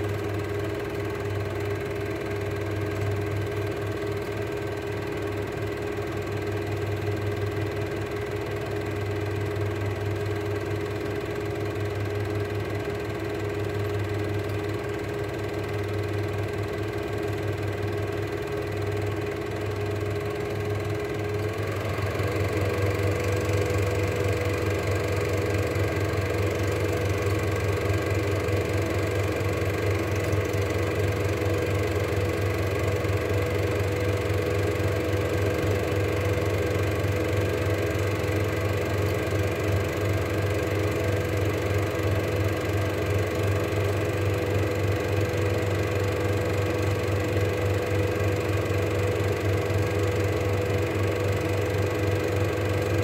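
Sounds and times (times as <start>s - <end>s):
film projector whirring: 0.0s - 53.0s.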